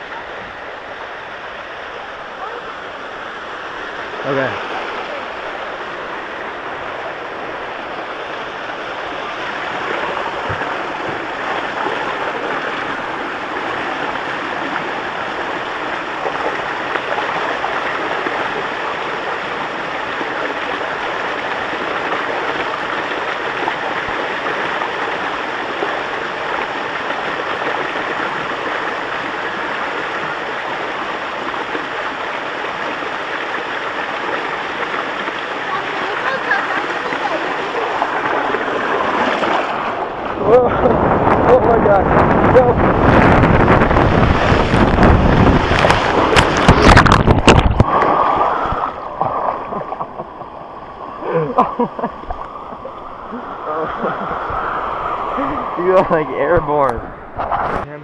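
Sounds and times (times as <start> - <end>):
water rushing down a waterslide: 0.0 - 58.0.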